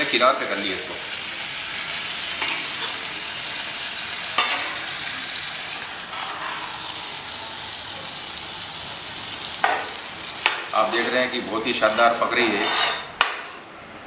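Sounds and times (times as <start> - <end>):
fish sizzling in oil: 0.0 - 11.4.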